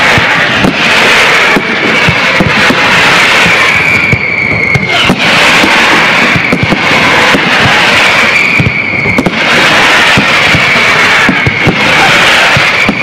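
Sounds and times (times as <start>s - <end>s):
fireworks crackling and banging: 0.0s - 13.0s
high whistling tone: 2.3s - 13.0s.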